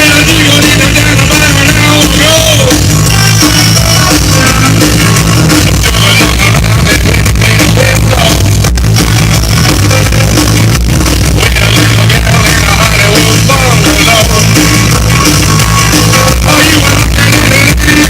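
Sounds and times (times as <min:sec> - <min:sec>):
distorted rock music with singing: 0:00.0 - 0:18.0.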